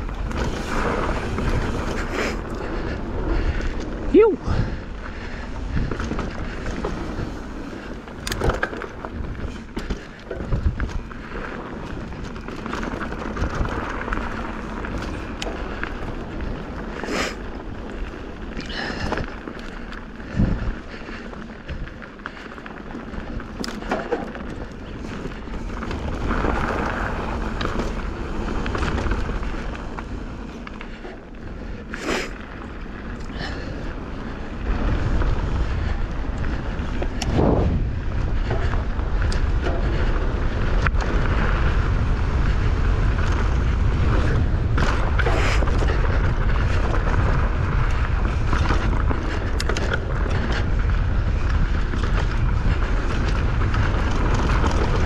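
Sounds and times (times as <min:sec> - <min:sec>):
bike knocking and rattling: 0:00.0 - 0:55.0
tyres on dirt and rock: 0:00.0 - 0:55.0
wind rumbling on microphone: 0:00.0 - 0:55.0.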